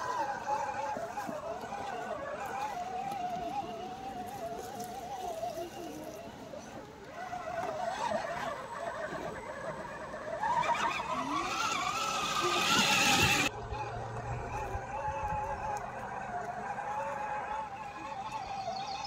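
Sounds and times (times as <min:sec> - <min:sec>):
toy truck electric motor whining: 0:00.0 - 0:19.0.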